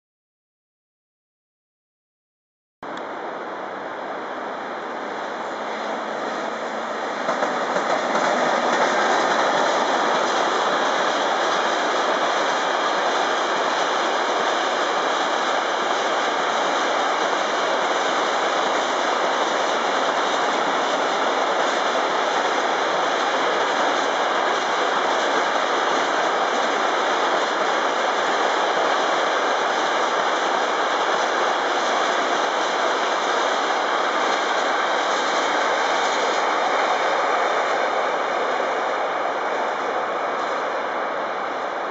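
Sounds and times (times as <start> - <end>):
train wheels rushing on rail: 3.0 - 41.9.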